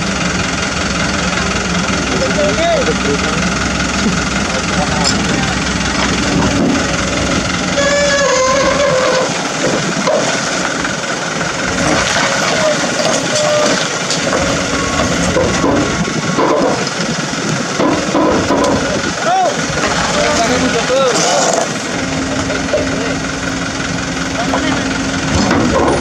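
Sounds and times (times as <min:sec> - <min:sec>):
excavator diesel engine under load: 0:00.0 - 0:26.0.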